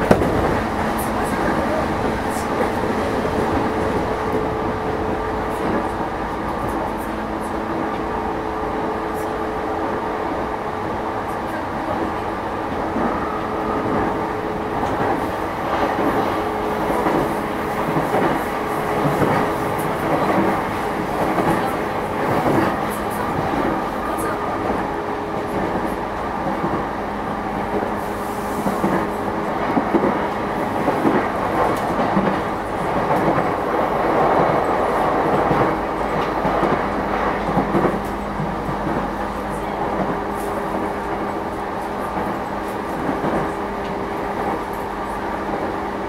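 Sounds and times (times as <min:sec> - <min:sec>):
train rolling noise: 0:00.0 - 0:46.0.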